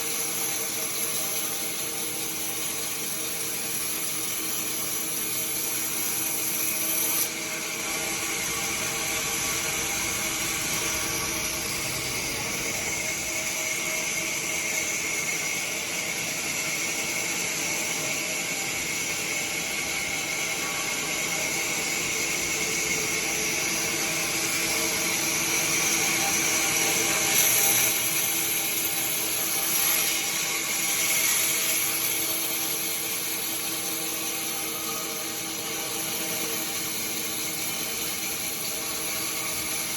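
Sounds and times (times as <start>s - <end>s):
saw whining and hissing: 0.0s - 39.9s.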